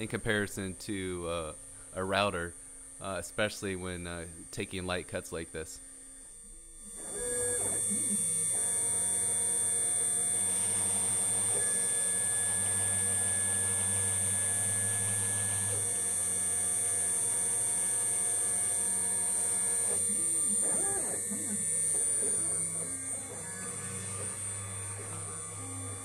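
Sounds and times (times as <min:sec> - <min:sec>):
spindle high whine: 0:00.0 - 0:26.0.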